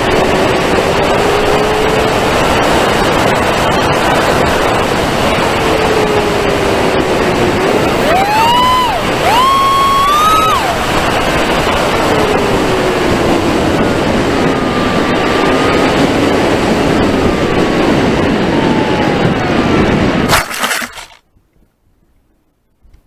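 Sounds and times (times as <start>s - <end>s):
wind rushing over airframe: 0.0s - 20.3s
electric motor and propeller whine: 0.0s - 21.0s.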